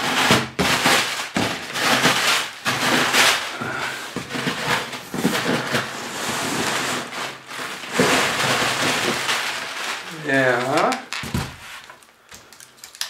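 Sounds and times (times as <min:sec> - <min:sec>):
packing tape ripping off cardboard: 0:00.0 - 0:13.0
cardboard scraping and rustling: 0:01.4 - 0:12.0.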